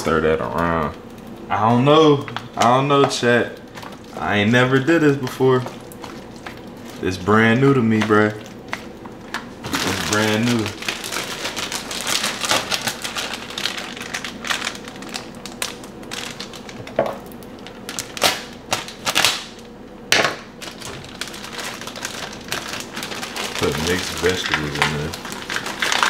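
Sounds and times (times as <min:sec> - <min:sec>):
plastic bag crinkling: 0:00.0 - 0:19.7, 0:20.4 - 0:26.0.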